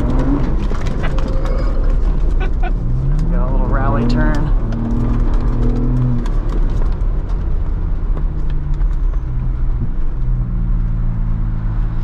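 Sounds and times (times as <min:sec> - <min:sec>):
car engine running: 0:00.0 - 0:12.0
tyres rumbling on dirt track: 0:00.0 - 0:12.0.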